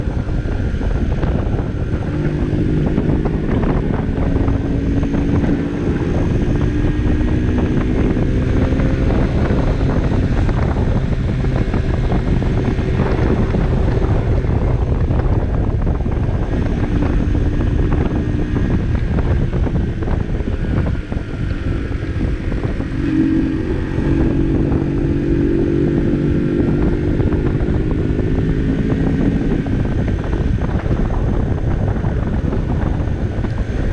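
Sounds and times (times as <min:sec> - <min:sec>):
moped engine running: 0:00.0 - 0:33.9
wind buffeting microphone: 0:00.0 - 0:33.9.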